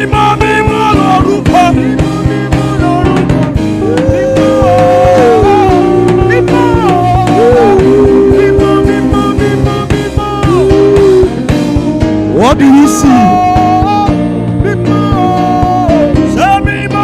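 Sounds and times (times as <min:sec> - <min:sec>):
steady drum beat: 0:00.0 - 0:17.0
worship band music: 0:00.0 - 0:17.0.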